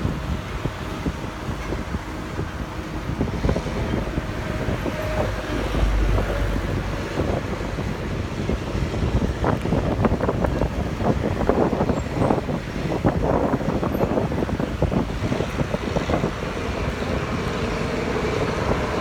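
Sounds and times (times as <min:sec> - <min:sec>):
low rumble of engines: 0:00.0 - 0:19.0
wind buffeting microphone: 0:00.0 - 0:19.0.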